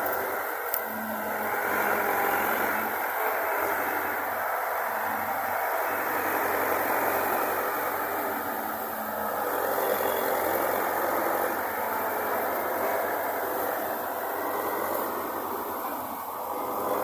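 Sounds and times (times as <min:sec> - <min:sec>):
farm machinery engine running: 0:00.0 - 0:17.0.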